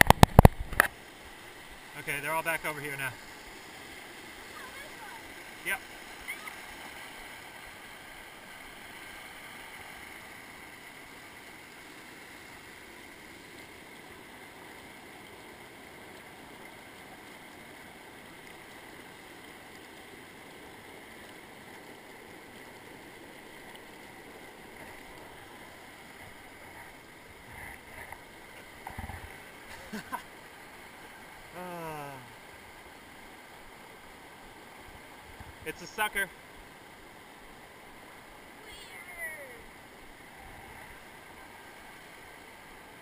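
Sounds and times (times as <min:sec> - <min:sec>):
stream water rushing over rocks: 0:00.0 - 0:43.0.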